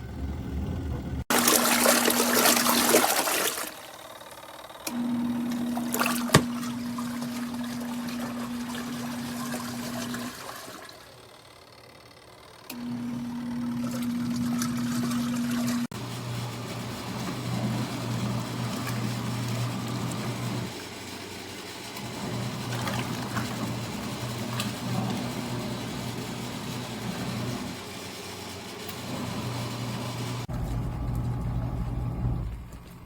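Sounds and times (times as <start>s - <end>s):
washing machine motor humming: 0.0s - 33.0s.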